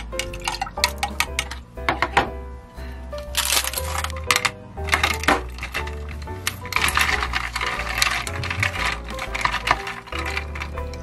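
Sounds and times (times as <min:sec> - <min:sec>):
ice cubes clinking in cup: 0:00.0 - 0:01.6, 0:03.3 - 0:11.0
background music: 0:00.0 - 0:11.0.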